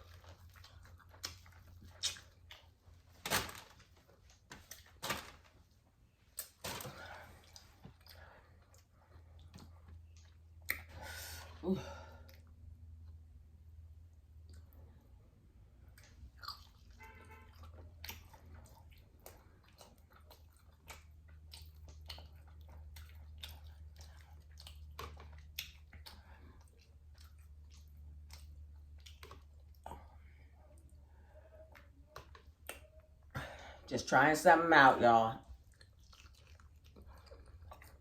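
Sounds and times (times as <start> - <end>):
person chewing and smacking: 0.0 - 11.5, 12.1 - 33.6, 35.4 - 38.0.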